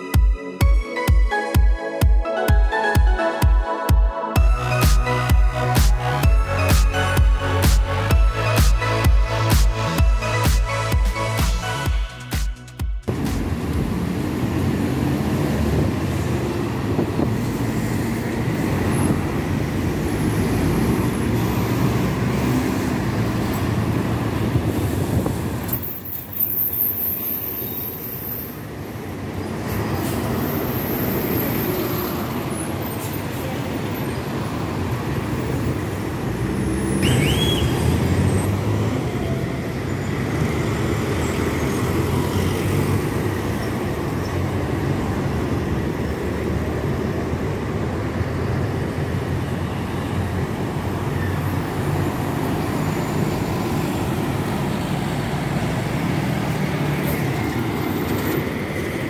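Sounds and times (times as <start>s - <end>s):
bus engines rumbling: 4.4s - 59.0s
cars passing: 4.4s - 59.0s.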